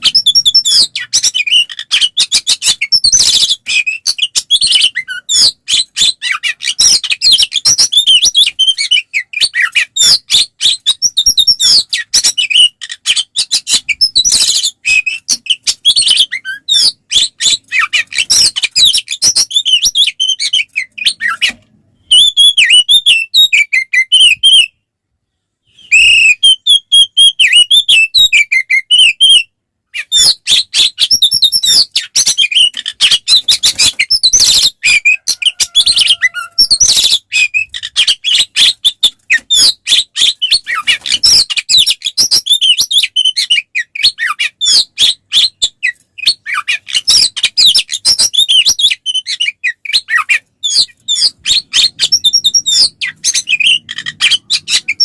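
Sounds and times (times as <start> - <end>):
magpie-robin singing: 0.0 - 24.8, 25.6 - 55.0.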